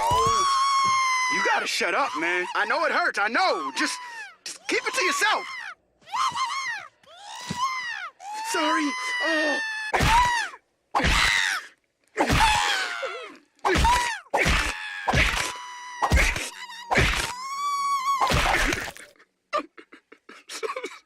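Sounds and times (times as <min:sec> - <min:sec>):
creature squealing in pain: 0:00.0 - 0:02.9, 0:03.5 - 0:11.6, 0:12.2 - 0:19.0.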